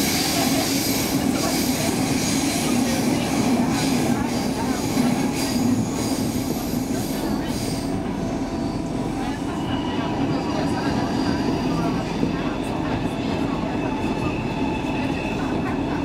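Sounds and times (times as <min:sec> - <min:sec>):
train rumble from inside car: 0:00.0 - 0:16.0.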